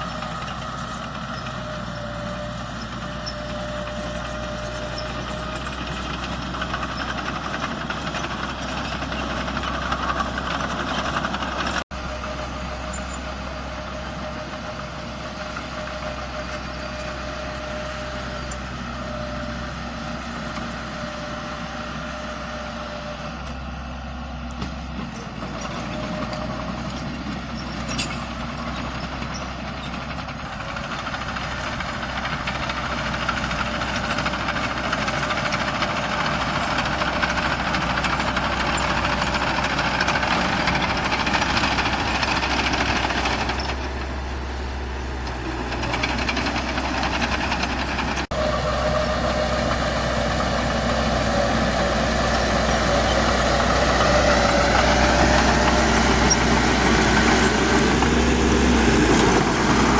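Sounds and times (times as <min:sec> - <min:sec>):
heavy diesel engines humming: 0:00.0 - 0:59.9.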